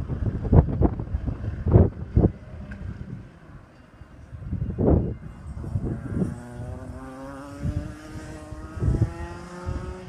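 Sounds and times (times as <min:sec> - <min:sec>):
distant kart engines: 0:00.0 - 0:10.0
wind buffeting microphone: 0:00.0 - 0:10.0.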